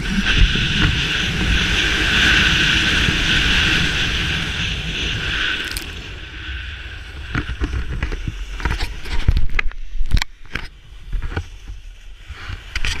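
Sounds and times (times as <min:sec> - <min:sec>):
snowboard scraping over snow: 0:00.0 - 0:13.0
wind buffeting microphone: 0:00.0 - 0:13.0.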